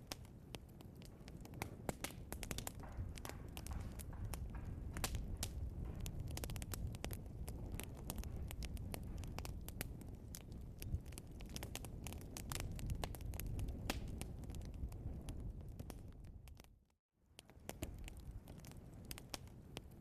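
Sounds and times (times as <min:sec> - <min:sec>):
burning log crackling and popping: 0:00.0 - 0:20.0.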